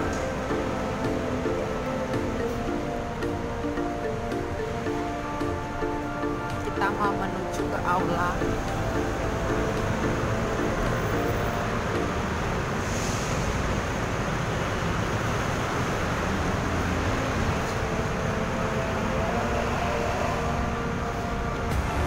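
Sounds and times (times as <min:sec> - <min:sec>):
city traffic roar: 0:00.0 - 0:22.0.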